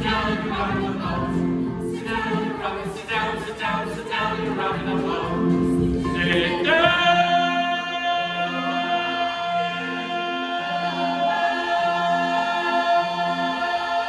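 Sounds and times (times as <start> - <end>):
group singing with accompaniment: 0.0 - 14.0.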